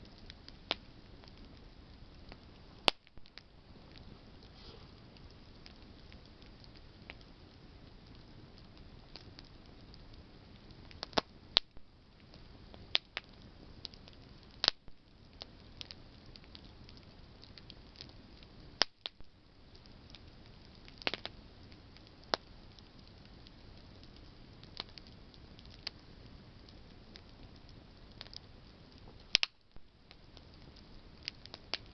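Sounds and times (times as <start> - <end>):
campfire crackling: 0.0 - 31.9.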